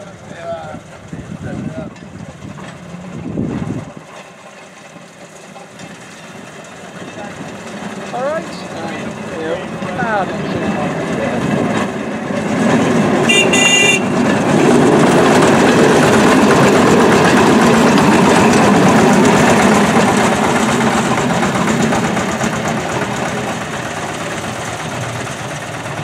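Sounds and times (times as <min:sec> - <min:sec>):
rail trolley engine passing: 0:00.0 - 0:26.0.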